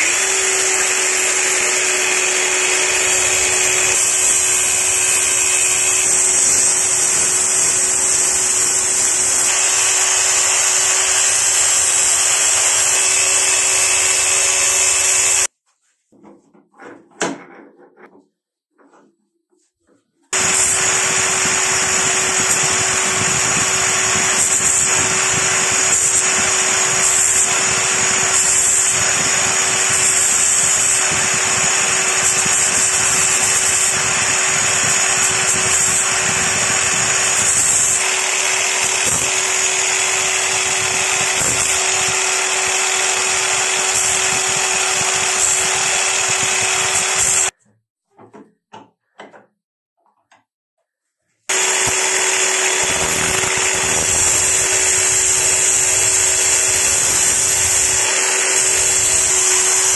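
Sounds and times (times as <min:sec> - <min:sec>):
angle grinder grinding steel: 0:00.0 - 0:15.5, 0:20.3 - 0:47.6, 0:51.5 - 0:59.9.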